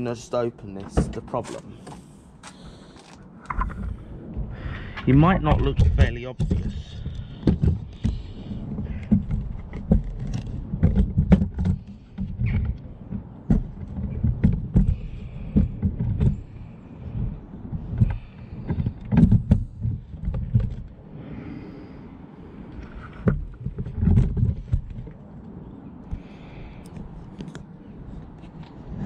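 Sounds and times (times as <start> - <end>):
low rumble: 2.2 - 29.0.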